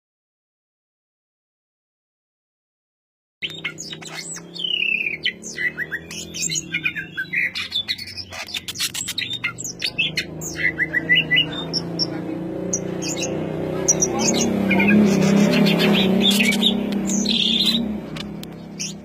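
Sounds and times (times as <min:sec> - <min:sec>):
bird singing rapid song: 0:03.4 - 0:19.0.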